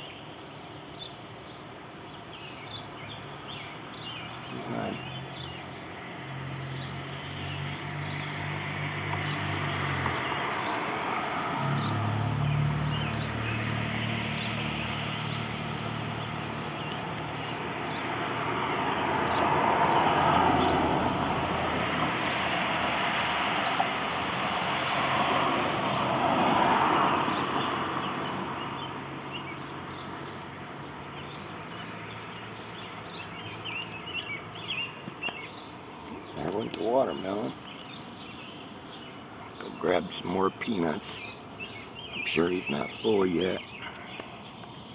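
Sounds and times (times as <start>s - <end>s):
passing vehicles road noise: 0.0s - 44.9s
low engine hum: 2.2s - 44.9s.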